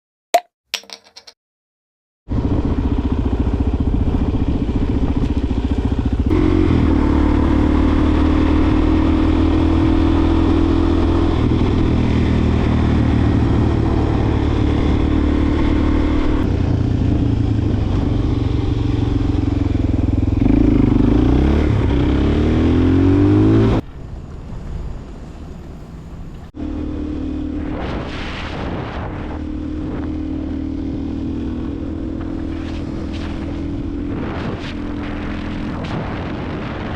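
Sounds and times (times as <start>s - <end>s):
motorcycle engine running: 2.3s - 24.0s, 25.5s - 36.9s.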